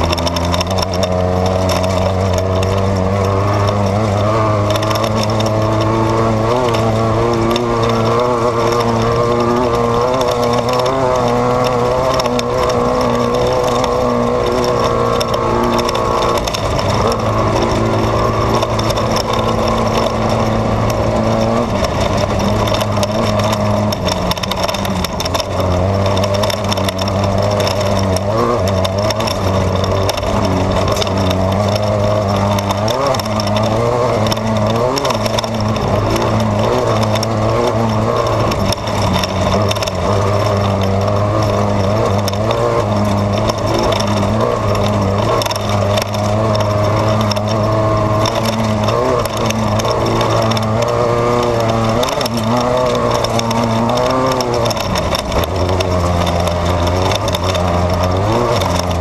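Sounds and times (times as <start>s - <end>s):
race car engine revving: 0.0s - 59.0s
road noise: 0.0s - 59.0s
small knocks: 0.0s - 59.0s.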